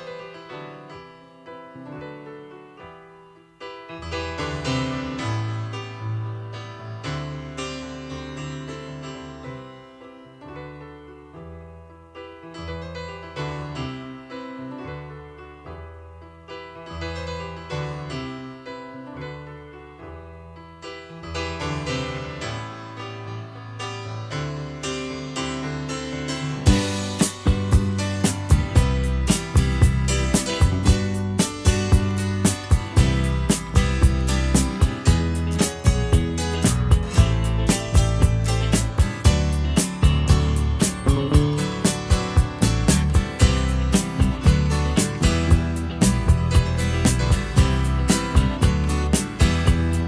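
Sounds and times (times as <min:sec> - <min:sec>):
slow piano music: 0:00.0 - 0:50.0.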